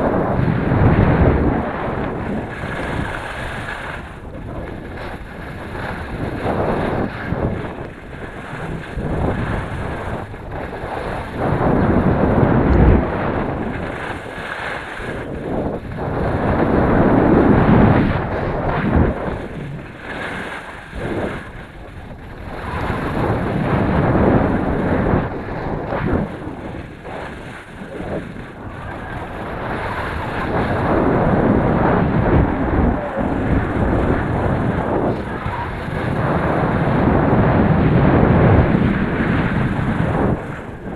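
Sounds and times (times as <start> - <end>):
skis scraping on snow: 0.0 - 40.9
wind rushing over microphone: 0.0 - 40.9.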